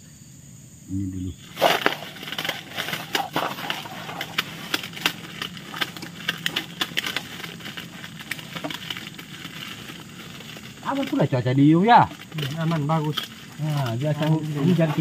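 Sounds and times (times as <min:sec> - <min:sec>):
rapid crackling clicks: 0:01.5 - 0:15.0.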